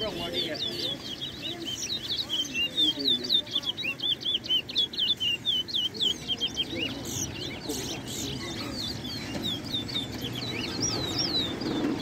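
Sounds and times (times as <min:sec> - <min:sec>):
finch chirping: 0:00.0 - 0:12.0.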